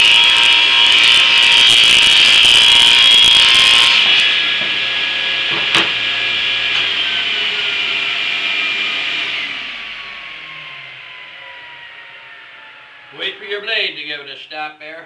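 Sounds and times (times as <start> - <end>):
table saw cutting wood: 0.0 - 13.9
saw blade whine spinning down: 0.0 - 14.4.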